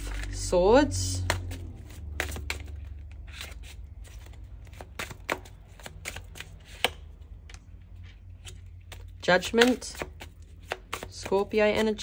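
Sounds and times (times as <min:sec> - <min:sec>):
cards being shuffled: 0:00.0 - 0:00.5, 0:01.2 - 0:12.0.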